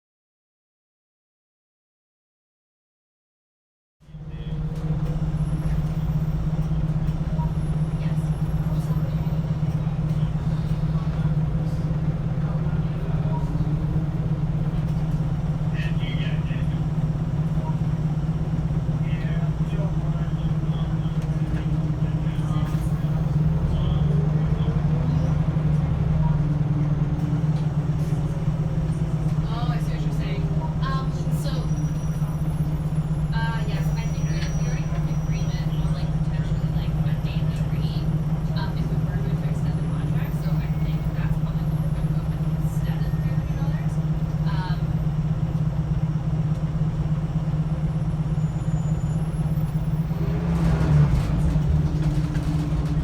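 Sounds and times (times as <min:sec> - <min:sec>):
bus diesel engine droning: 0:04.0 - 0:53.0.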